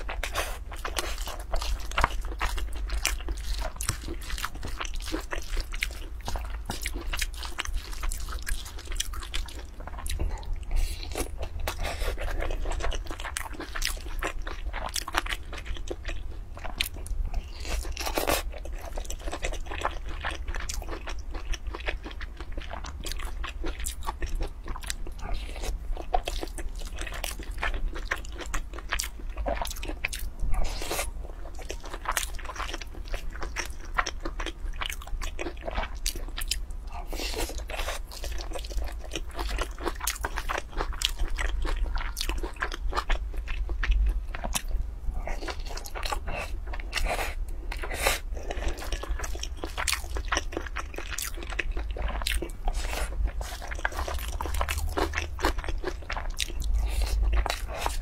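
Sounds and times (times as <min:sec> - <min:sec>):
chewing and crunching food: 0:00.0 - 0:58.0
steady low hum: 0:00.0 - 0:58.0.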